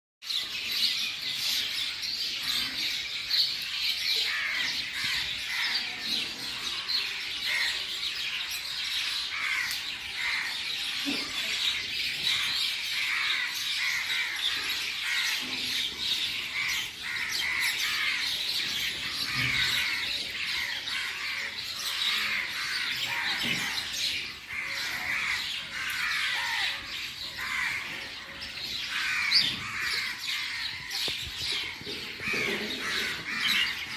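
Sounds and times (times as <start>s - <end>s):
birds chirping chorus: 0.2s - 33.9s.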